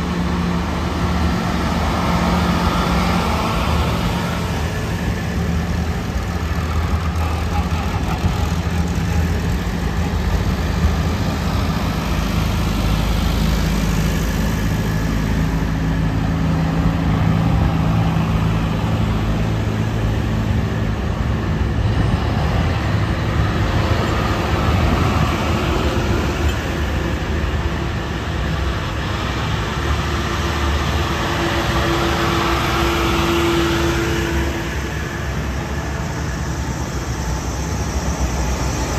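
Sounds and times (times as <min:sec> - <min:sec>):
tractors driving past: 0:00.0 - 0:38.9.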